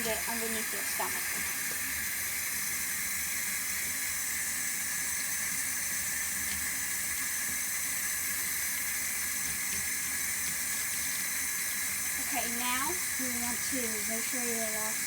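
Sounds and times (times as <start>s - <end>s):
tap water running into bathtub: 0.0s - 15.0s.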